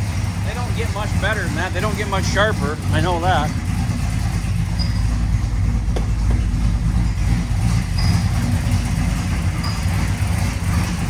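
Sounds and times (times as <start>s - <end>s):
drive belt squealing: 0.0s - 11.0s
vee eight engine idling: 0.0s - 11.0s.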